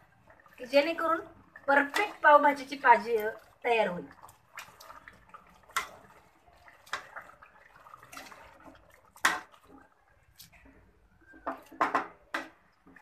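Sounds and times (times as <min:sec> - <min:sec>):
wet squelching of mashed vegetables: 0:00.0 - 0:13.0.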